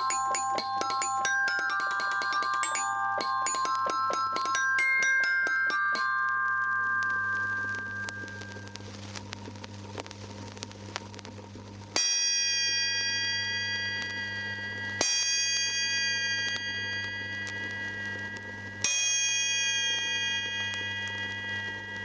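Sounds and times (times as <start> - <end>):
low vinyl hum: 0.0 - 22.0.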